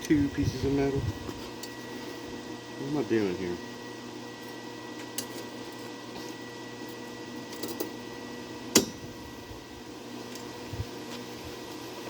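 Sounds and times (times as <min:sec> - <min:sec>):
mechanical hum with fixed tones: 0:00.0 - 0:12.0.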